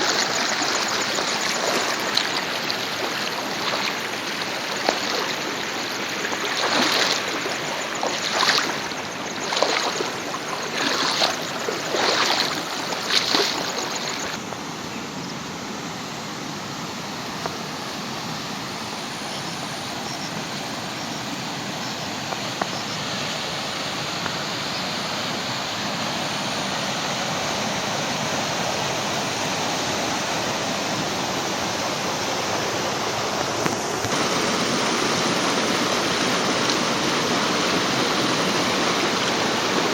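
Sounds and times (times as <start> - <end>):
water flowing steadily: 0.0 - 39.9
water splashing in surges: 0.0 - 39.9.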